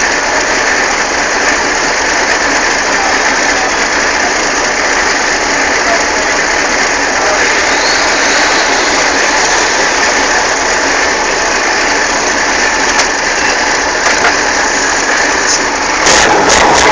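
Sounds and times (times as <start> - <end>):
truck engine with buzzing rattle: 0.0 - 16.9.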